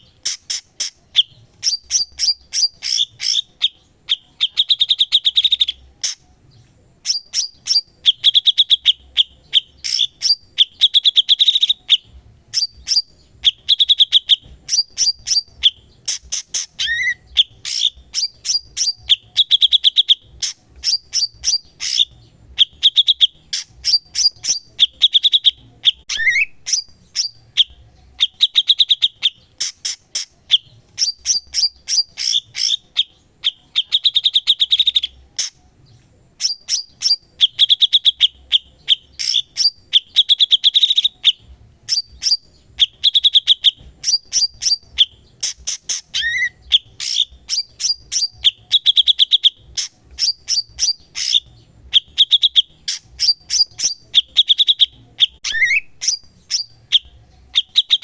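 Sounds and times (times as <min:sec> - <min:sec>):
bird singing clicks and trills: 0:00.0 - 0:58.0.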